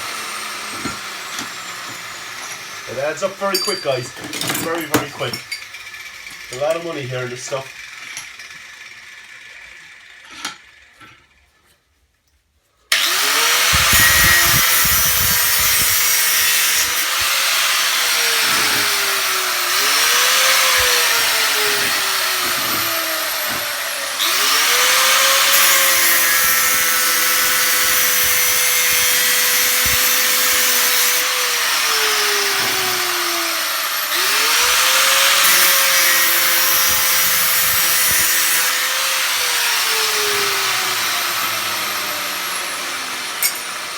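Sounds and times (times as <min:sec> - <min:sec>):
power tool grinding metal: 0:00.0 - 0:11.5, 0:12.9 - 0:43.9.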